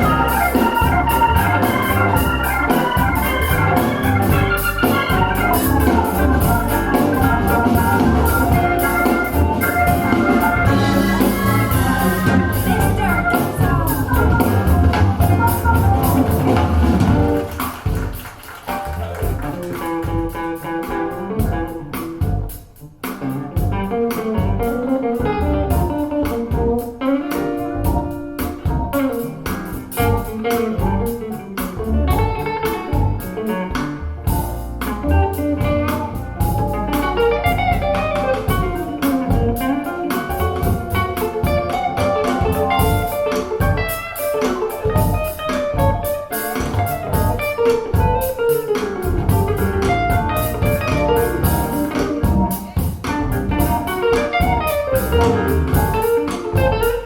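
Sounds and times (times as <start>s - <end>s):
guitar instrumental music: 0.0s - 57.0s.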